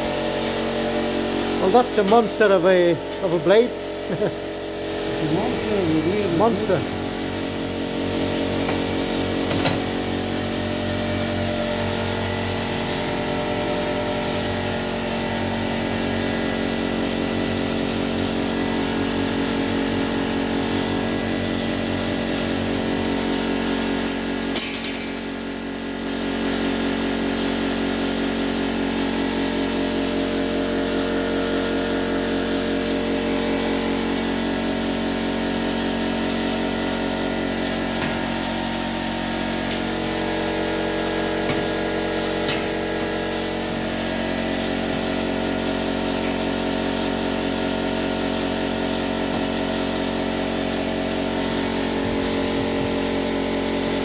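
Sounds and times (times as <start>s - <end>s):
generator engine drone: 0.0s - 24.4s, 28.2s - 54.0s.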